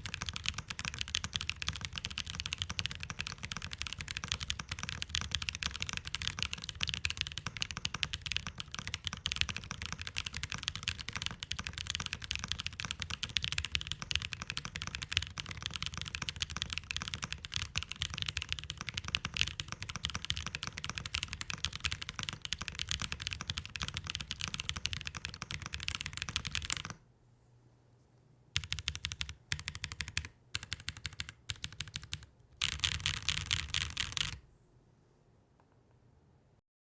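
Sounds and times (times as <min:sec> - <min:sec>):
mechanical keyboard keys clacking: 0:00.0 - 0:27.0, 0:28.6 - 0:34.4.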